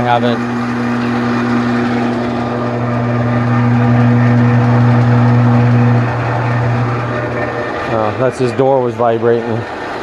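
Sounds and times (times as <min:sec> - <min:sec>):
gear noise: 0:00.0 - 0:10.0
metal lathe motor hum: 0:00.0 - 0:10.0
vibrating sheet-metal door buzz: 0:00.0 - 0:10.0.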